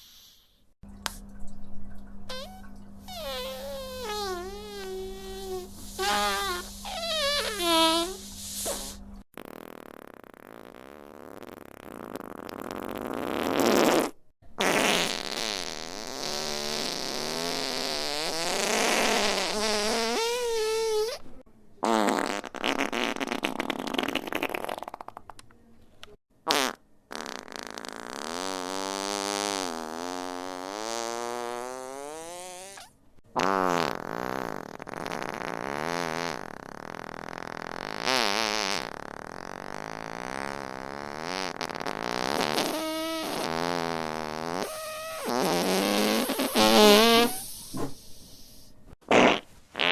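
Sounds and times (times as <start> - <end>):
fart sound effects: 2.3 - 21.2, 21.8 - 25.4, 26.5 - 48.1, 49.0 - 49.9.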